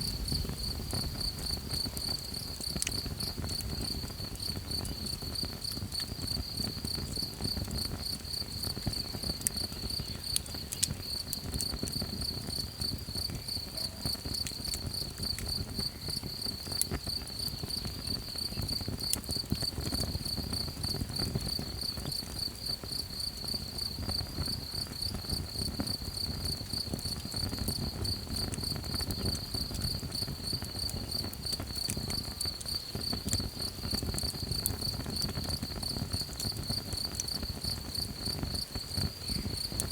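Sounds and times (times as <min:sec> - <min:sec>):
campfire hissing and crackling: 0:00.0 - 0:39.9
crickets chirping: 0:00.0 - 0:39.9.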